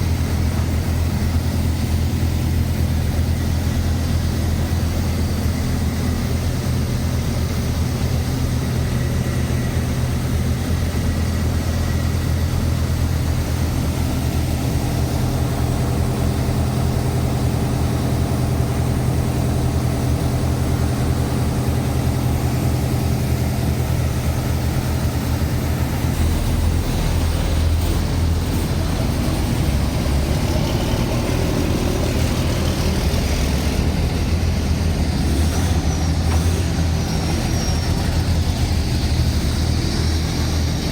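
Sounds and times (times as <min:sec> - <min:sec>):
heavy truck engine droning: 0:00.0 - 0:40.9.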